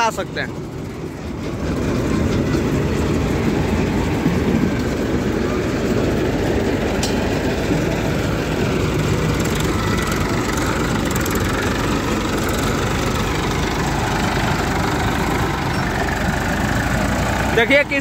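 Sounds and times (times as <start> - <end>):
tractor diesel engines running: 0.0 - 18.0.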